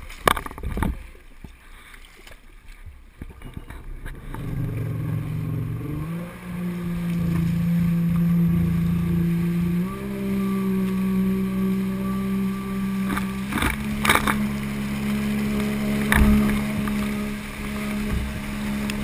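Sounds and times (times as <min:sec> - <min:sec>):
engine running: 0:03.4 - 0:19.0.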